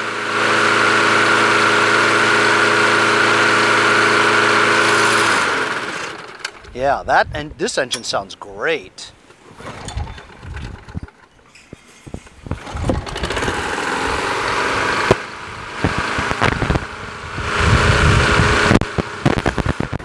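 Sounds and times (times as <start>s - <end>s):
lawn mower engine running: 0.0s - 6.8s, 9.2s - 20.0s.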